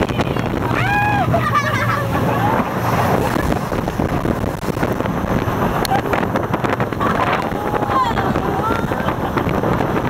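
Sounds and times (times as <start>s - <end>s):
boat engine rumble: 0.0s - 10.0s
rushing water: 0.0s - 10.0s
wind buffeting microphone: 0.0s - 10.0s.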